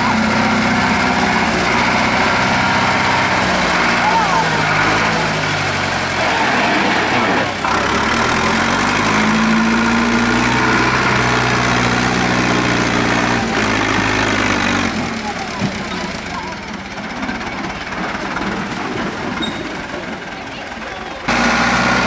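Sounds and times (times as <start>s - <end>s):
tractor diesel engine straining: 0.0s - 22.0s.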